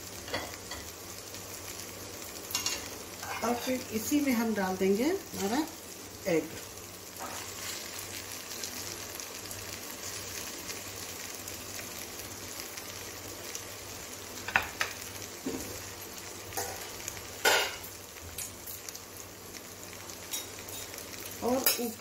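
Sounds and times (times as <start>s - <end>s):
chicken sizzling in a pot: 0.0s - 22.0s.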